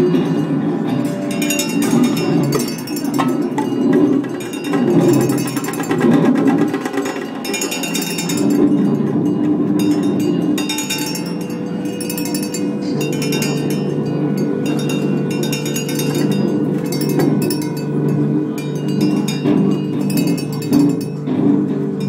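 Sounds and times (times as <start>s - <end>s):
low sustained tones: 0.0s - 22.0s
metal pots and pans struck: 0.0s - 22.0s.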